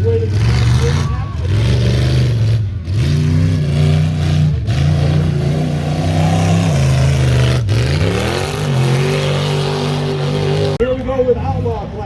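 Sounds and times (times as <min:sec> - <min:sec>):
engine revving hard: 0:00.3 - 0:10.8.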